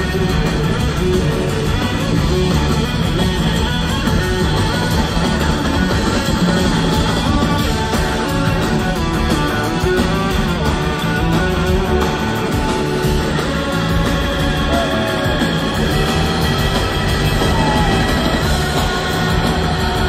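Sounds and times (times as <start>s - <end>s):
blues-rock band playing: 0.0s - 20.0s
electric guitar: 0.0s - 20.0s.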